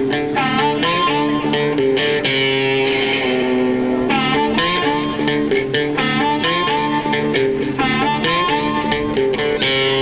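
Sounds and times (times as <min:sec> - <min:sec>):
electric guitar music: 0:00.0 - 0:10.0.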